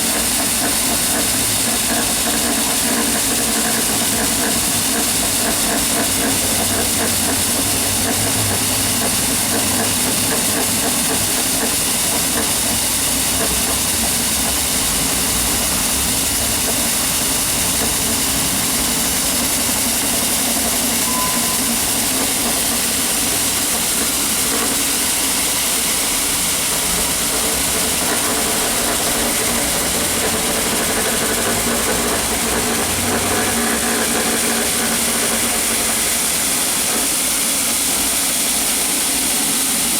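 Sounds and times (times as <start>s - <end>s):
floor scrubber hiss: 0.0s - 39.9s.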